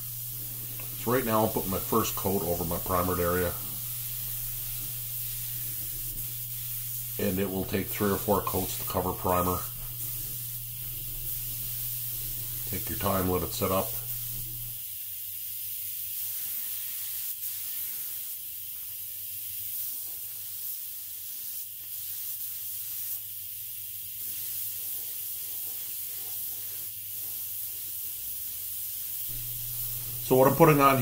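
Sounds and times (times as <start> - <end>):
spray gun hissing: 0.0 - 31.0.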